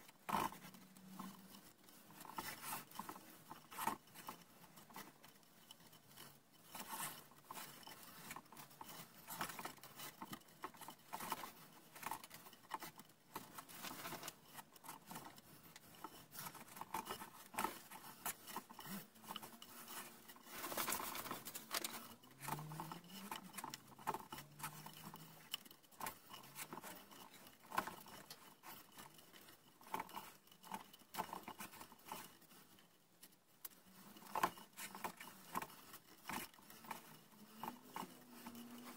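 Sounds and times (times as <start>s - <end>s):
rope rustling and scraping on wood: 0.0s - 38.9s.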